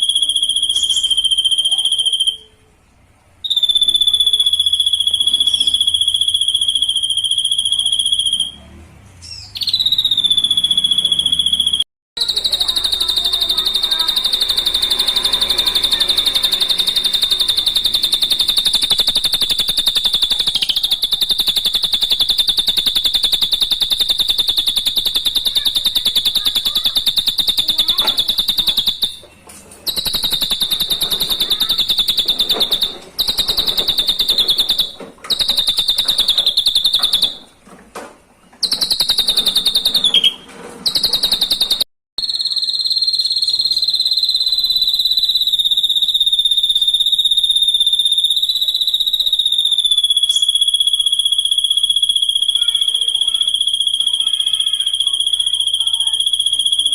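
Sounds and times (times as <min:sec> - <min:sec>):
bird buzzy high trill: 0:00.0 - 0:02.7, 0:03.4 - 0:08.6, 0:09.3 - 0:37.6, 0:38.6 - 0:56.9.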